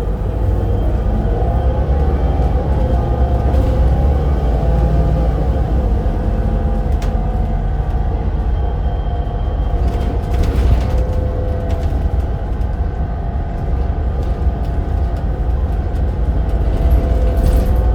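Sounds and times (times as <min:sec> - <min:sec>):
bus engine rumbling: 0:00.0 - 0:17.9.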